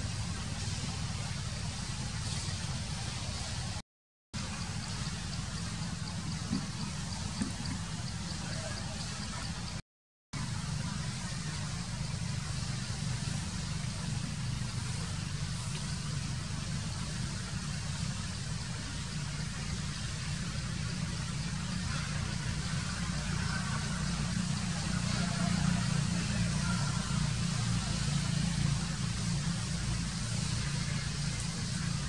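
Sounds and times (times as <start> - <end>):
constant hiss: 0.0 - 3.8, 4.4 - 9.8, 10.4 - 32.0
vehicle engine idling hum: 0.0 - 3.8, 4.4 - 9.8, 10.4 - 32.0.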